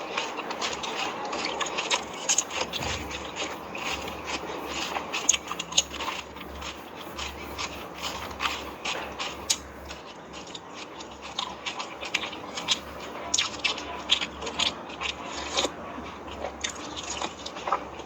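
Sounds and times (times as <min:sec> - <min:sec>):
crisp shells crunched and chewed: 0:00.0 - 0:18.0.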